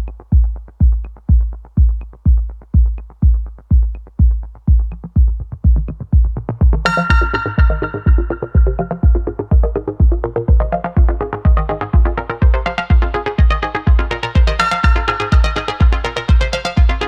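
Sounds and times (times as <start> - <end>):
kick drum beat: 0.0 - 17.0
synth chords: 0.0 - 17.0.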